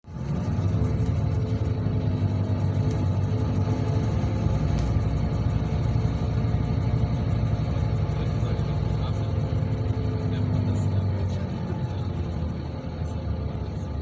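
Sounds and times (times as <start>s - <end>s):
bus engine running: 0.0s - 14.0s
road noise rumble: 0.0s - 14.0s.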